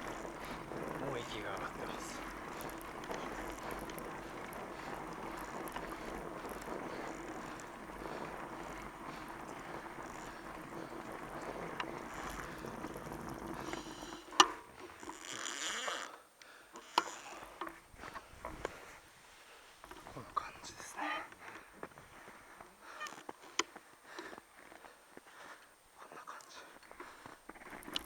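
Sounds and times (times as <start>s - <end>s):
bike tyres rolling on snow: 0.0s - 28.0s.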